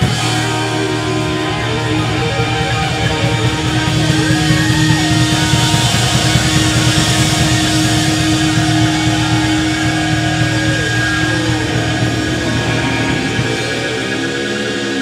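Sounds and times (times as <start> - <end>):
bass guitar: 0.0 - 15.0
distorted electric guitars: 0.0 - 15.0
drum kit with cymbals: 0.0 - 15.0.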